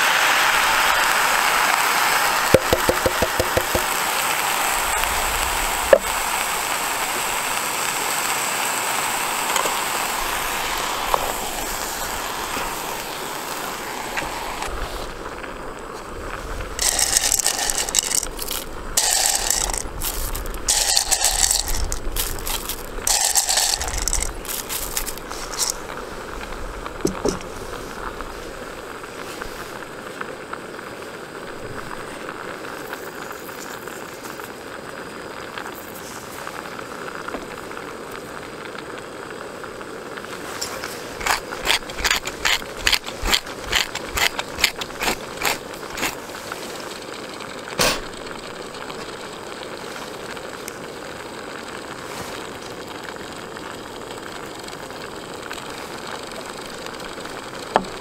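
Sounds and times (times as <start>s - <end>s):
food simmering in a pot: 0.0s - 58.0s.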